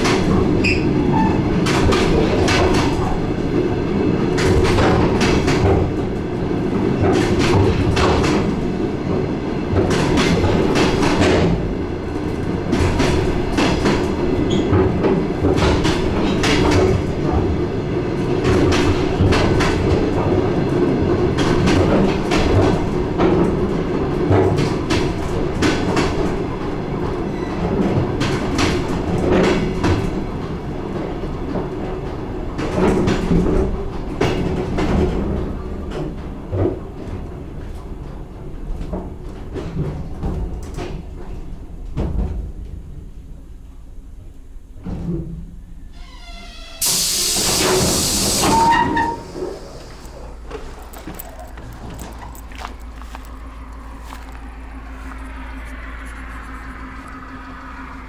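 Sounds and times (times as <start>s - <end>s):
train running drone: 0.0s - 45.9s, 46.8s - 58.0s
train wheels clattering over rail joints: 0.0s - 45.9s, 46.8s - 55.6s.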